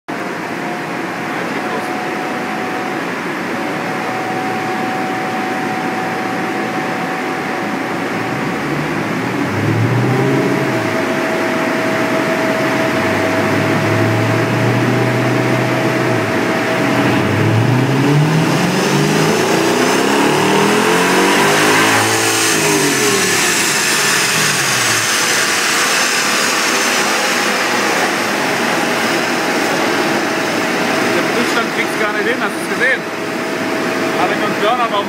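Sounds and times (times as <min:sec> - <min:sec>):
car engine revving on dyno: 0:00.1 - 0:35.0
high whine of dyno rollers: 0:00.1 - 0:35.0.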